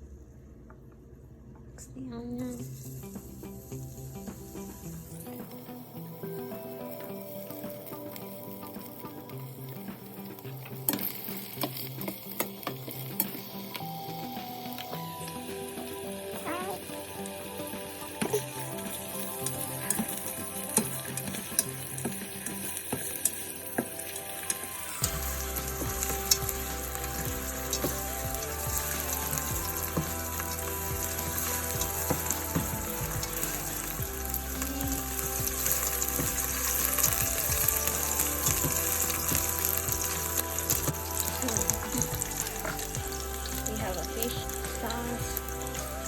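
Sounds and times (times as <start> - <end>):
onion sizzling in hot oil: 2.5 - 46.0.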